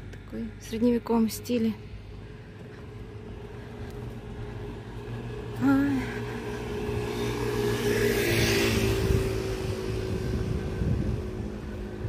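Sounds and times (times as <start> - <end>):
motorbike passing: 1.7 - 12.0.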